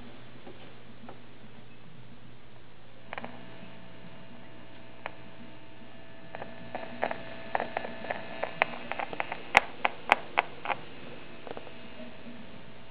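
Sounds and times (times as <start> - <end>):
amplifier electrical hum: 0.0 - 12.9.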